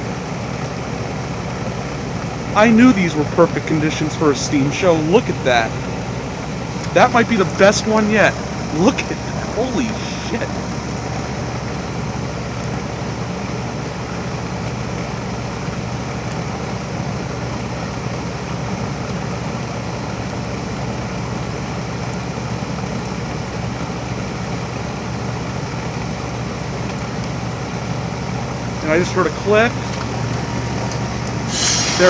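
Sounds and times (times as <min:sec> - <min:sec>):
heat pump compressor humming: 0:00.0 - 0:32.0.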